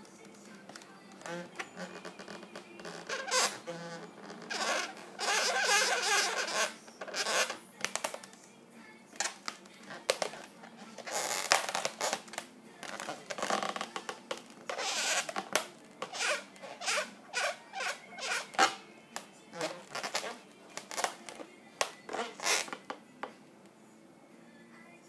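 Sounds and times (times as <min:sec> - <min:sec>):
balloons squeaking and rubbing: 0:00.0 - 0:08.3, 0:09.2 - 0:23.0
marker squeaking on balloon: 0:00.7 - 0:08.2, 0:09.2 - 0:23.0.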